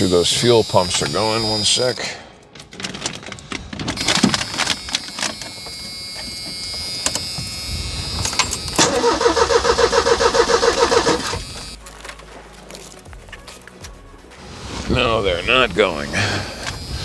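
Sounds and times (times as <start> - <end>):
car engine cranking by starter: 0.0 - 12.1, 14.7 - 17.0.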